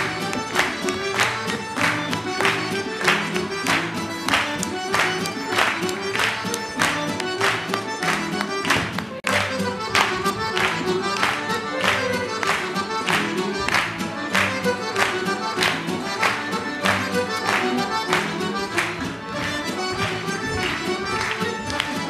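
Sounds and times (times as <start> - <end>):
folk dance music with accordion: 0.0 - 22.0
violin: 0.0 - 22.0.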